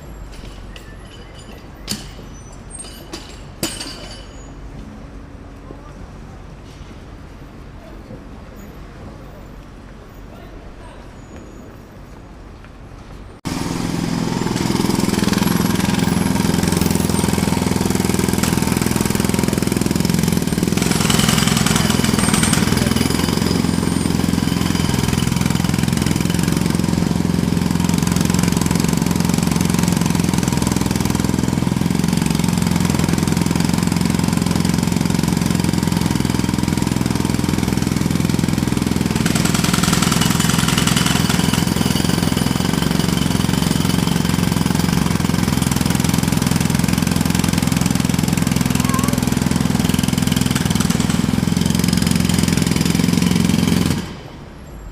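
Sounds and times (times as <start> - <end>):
jackhammer hammering: 0.4 - 4.4, 13.4 - 54.4.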